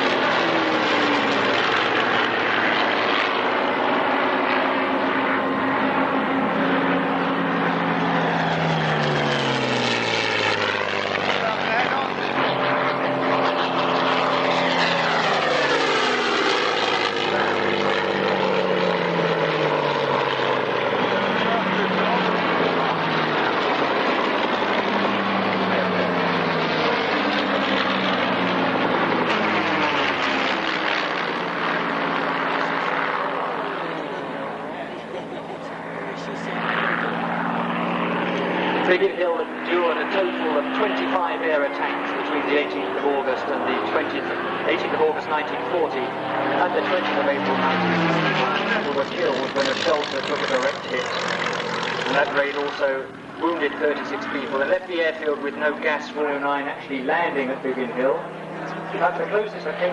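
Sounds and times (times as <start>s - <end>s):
propeller aircraft engines: 0.0s - 59.9s.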